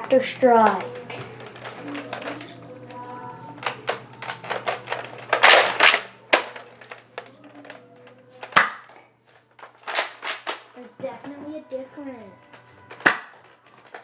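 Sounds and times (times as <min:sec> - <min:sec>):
plastic clicks: 0:00.0 - 0:03.0, 0:03.6 - 0:10.7, 0:12.5 - 0:14.0.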